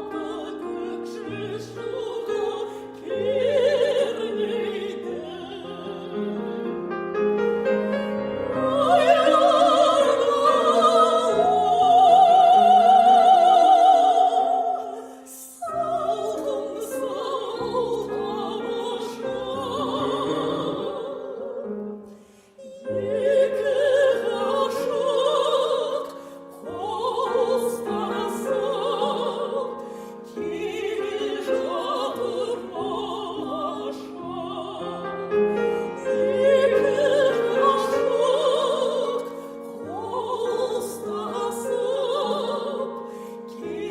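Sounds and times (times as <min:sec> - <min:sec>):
operatic female voice singing: 0:00.0 - 0:06.6, 0:08.5 - 0:21.9, 0:22.6 - 0:43.9
piano accompaniment: 0:00.0 - 0:43.9.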